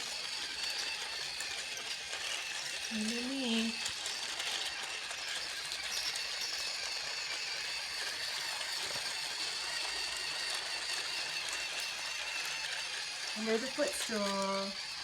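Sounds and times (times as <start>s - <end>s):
toy train motor whine: 0.0s - 15.0s.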